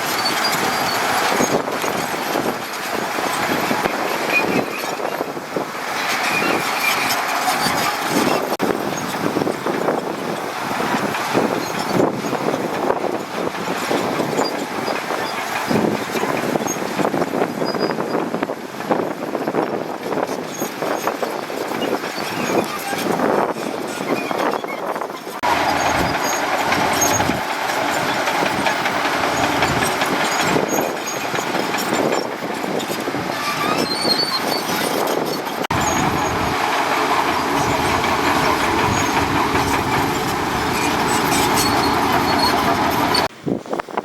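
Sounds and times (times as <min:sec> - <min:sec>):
heavy diesel machinery running: 0:00.0 - 0:17.4, 0:25.3 - 0:43.3.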